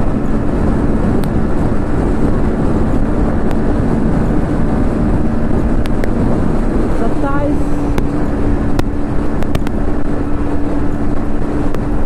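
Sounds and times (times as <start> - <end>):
motorcycle engine at high revs: 0.0 - 12.0
wind on microphone: 0.0 - 12.0.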